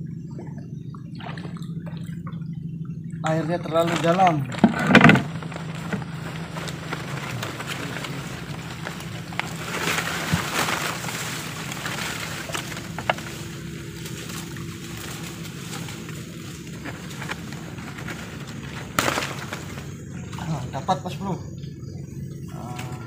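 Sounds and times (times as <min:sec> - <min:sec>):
faint steady hum: 0:00.0 - 0:23.0
water sloshing against boat hull: 0:00.0 - 0:23.0.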